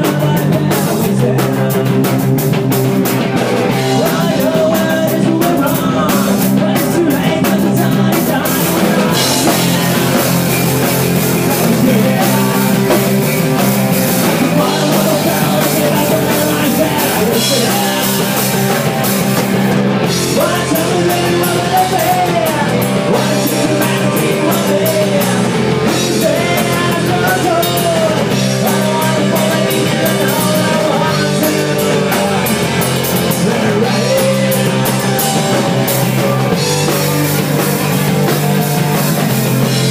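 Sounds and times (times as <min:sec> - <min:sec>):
bass guitar: 0:00.0 - 0:39.9
drum kit with cymbals: 0:00.0 - 0:39.9
electric guitars: 0:00.0 - 0:39.9.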